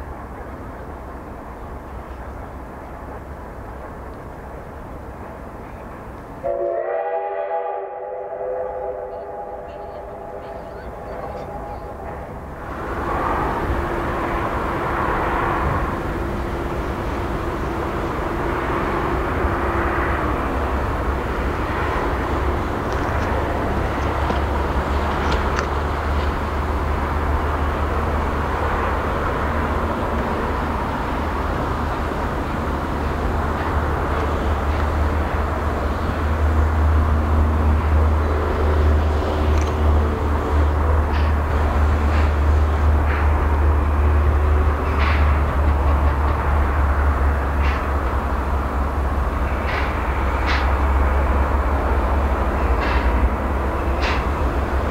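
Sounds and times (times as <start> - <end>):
train rumble approaching: 0.0 - 54.9.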